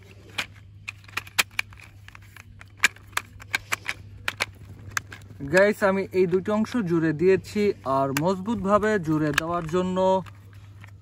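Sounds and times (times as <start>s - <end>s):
plastic toy parts clicking together: 0.0s - 5.8s, 8.0s - 11.0s.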